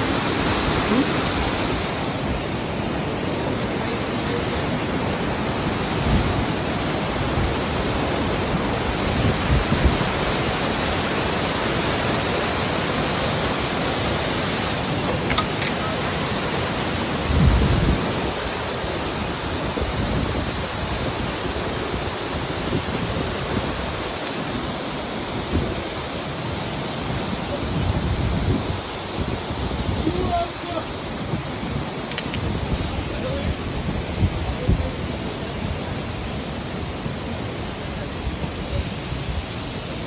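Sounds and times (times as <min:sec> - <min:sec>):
creek and waterfall rushing: 0:00.0 - 0:40.0.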